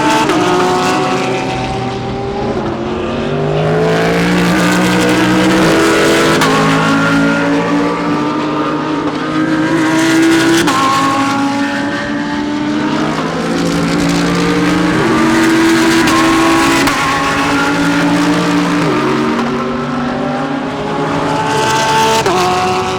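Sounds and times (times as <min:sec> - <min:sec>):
race car engines: 0:00.0 - 0:22.9.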